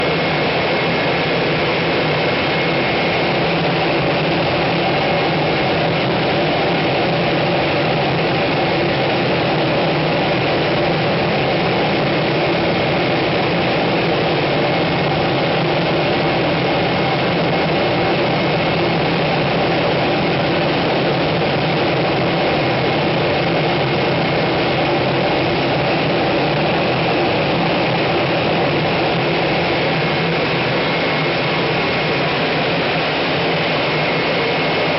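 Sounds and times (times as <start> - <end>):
gas compressor roaring: 0.0 - 34.9.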